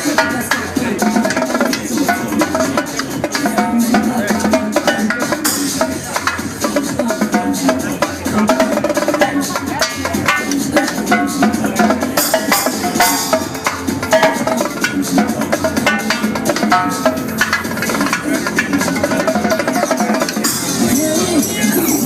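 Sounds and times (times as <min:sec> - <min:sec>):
electronic dance music: 0:00.0 - 0:22.0
live drumming on drums and cymbals: 0:00.0 - 0:22.0.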